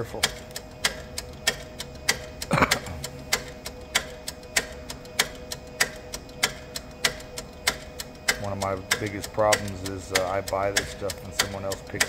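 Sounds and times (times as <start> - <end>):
inkjet printer clicking: 0.0 - 12.0.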